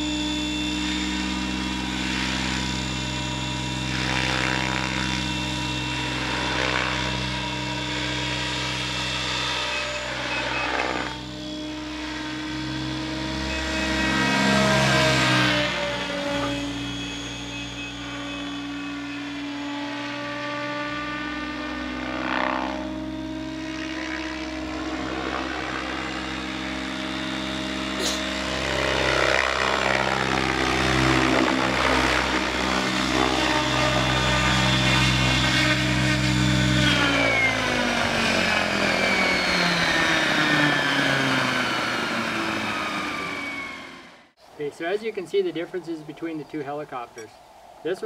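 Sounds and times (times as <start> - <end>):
rc helicopter rotor drone: 0.0 - 48.0.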